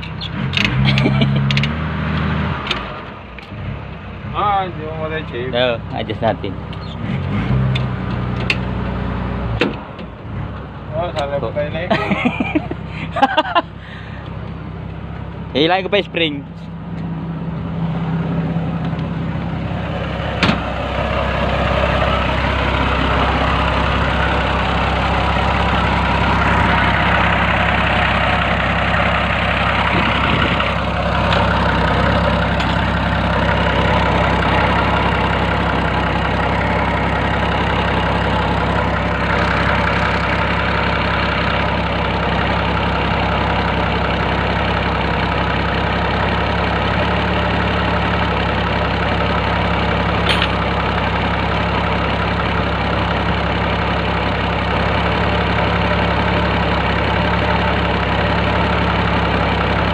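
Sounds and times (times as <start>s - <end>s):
engine idling: 0.0s - 7.2s, 7.8s - 59.9s.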